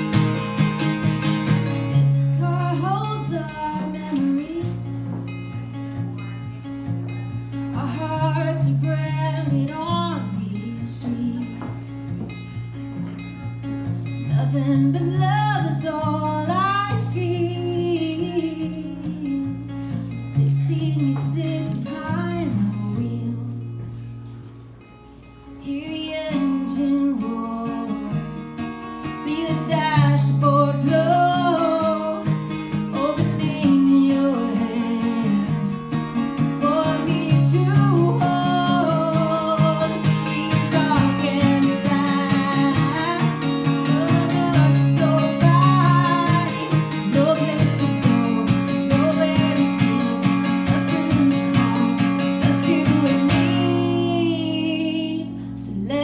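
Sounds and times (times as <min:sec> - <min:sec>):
acoustic guitar: 0:00.0 - 0:56.0
woman singing: 0:01.4 - 0:06.4, 0:07.1 - 0:12.4, 0:13.2 - 0:24.0, 0:25.6 - 0:56.0.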